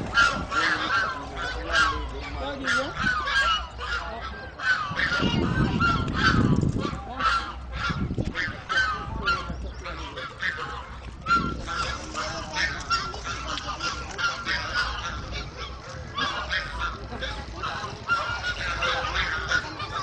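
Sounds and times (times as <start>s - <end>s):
geese honking: 0.0s - 20.0s.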